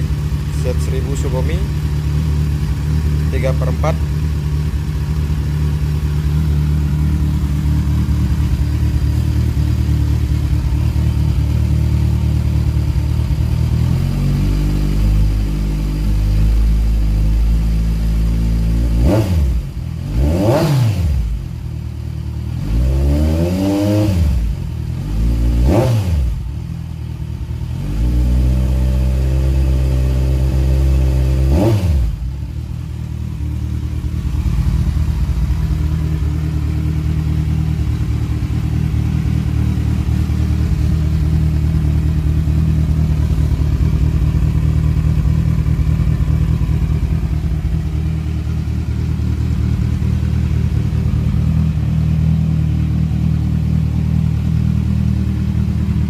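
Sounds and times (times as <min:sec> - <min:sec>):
motorcycle engine idling: 0:00.0 - 0:56.0
motorcycle engine revving: 0:00.0 - 0:56.0.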